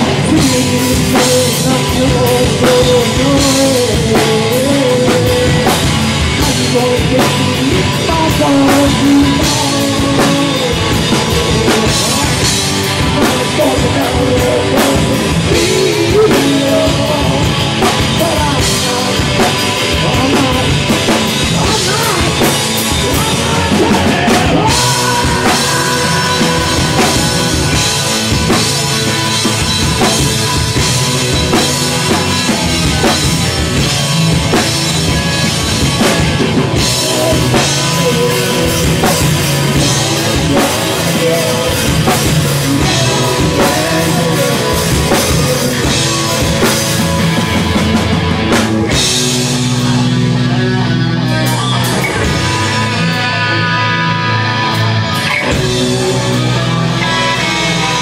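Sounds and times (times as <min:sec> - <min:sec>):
distorted electric guitars: 0:00.0 - 0:58.0
drum kit: 0:00.0 - 0:58.0
electric bass: 0:00.0 - 0:58.0.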